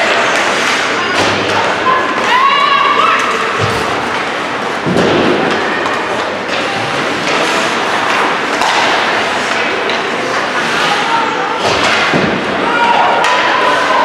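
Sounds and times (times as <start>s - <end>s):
hockey sticks and puck knocking: 0.1s - 2.3s, 3.2s - 10.8s, 11.6s - 13.9s.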